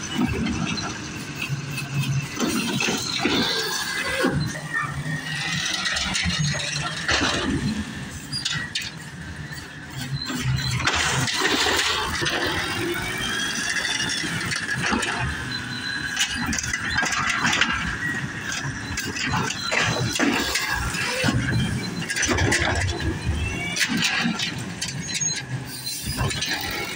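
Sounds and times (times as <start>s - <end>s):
garbage truck engine and hydraulics: 0.0s - 26.9s
lift arm clanks and squeals: 0.0s - 26.9s
trash cart dumping rush: 0.0s - 26.9s.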